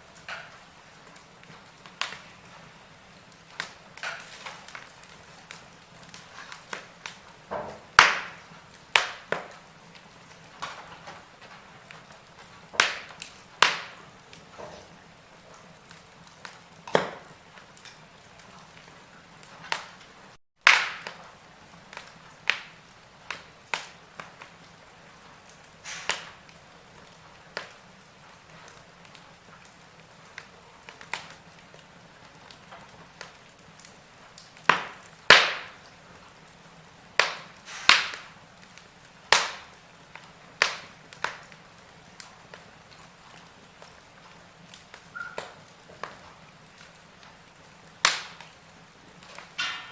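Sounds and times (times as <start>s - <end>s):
faint steady hiss: 0.0s - 49.9s
wood fire crackling and popping: 0.0s - 49.9s.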